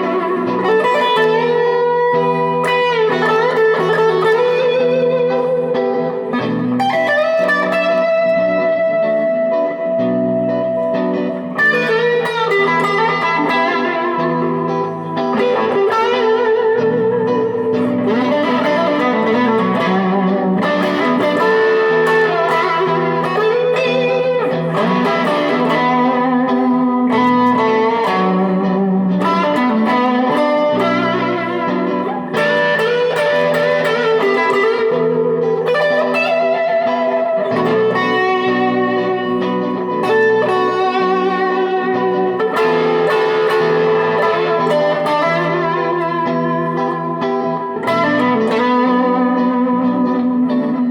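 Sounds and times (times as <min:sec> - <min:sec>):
electric guitar jam: 0:00.0 - 0:50.9.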